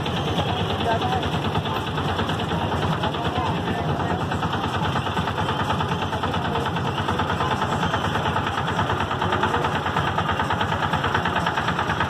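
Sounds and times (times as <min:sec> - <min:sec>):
engine idling putter: 0:00.0 - 0:12.0.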